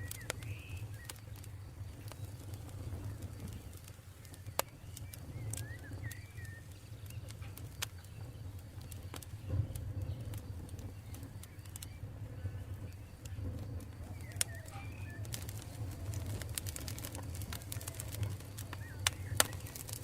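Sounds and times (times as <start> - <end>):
bird chirping: 0.0 - 20.0
campfire low rumble: 0.0 - 20.0
fire crackles and pops: 0.0 - 20.0.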